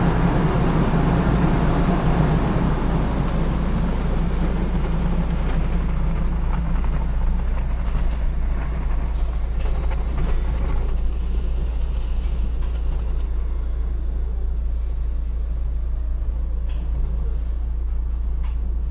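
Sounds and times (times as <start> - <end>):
car wash machine rumbling: 0.0 - 18.9.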